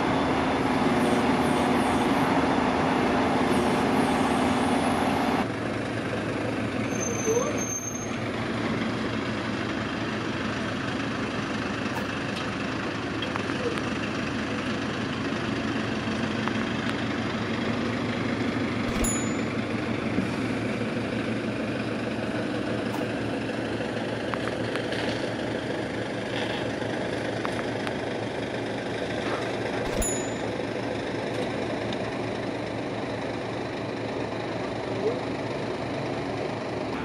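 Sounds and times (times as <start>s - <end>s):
crane diesel engine running: 0.0s - 37.0s.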